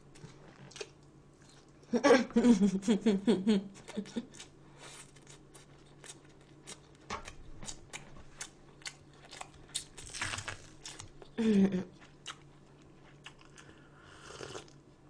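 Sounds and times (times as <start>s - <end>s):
chewing crunchy food: 0.1s - 1.8s, 4.3s - 14.9s.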